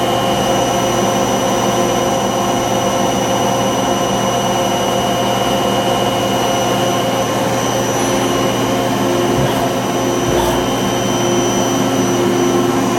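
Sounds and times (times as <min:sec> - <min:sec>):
lathe humming and whining: 0:00.0 - 0:12.9.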